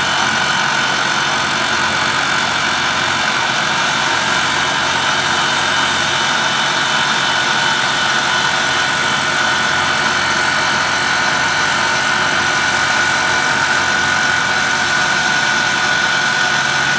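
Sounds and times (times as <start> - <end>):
machine tool high whine: 0.0 - 16.9.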